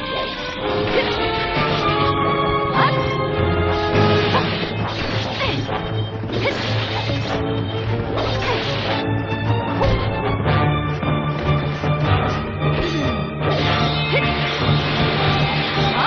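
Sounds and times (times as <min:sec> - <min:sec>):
dramatic music with bass line: 0:00.0 - 0:16.0.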